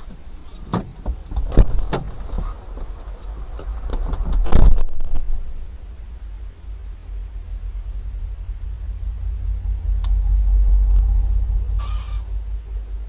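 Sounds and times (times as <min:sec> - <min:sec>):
rush of noise: 0:00.0 - 0:13.0
vehicle interior road rumble: 0:00.0 - 0:13.0.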